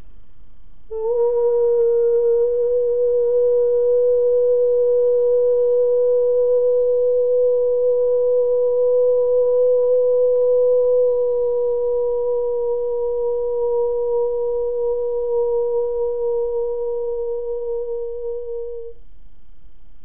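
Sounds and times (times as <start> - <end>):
woman holding a sung note: 0.9 - 19.0.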